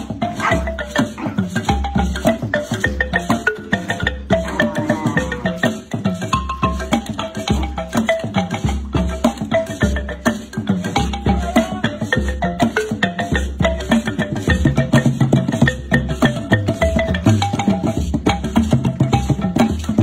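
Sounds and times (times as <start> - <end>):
clicking percussion beat: 0.0 - 20.0.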